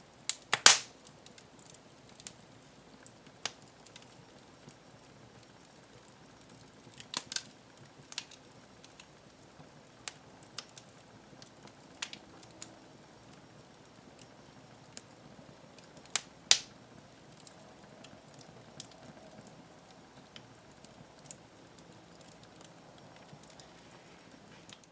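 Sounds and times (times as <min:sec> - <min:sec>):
faint steady hiss: 0:00.0 - 0:24.9
wood fire crackling: 0:00.0 - 0:24.9.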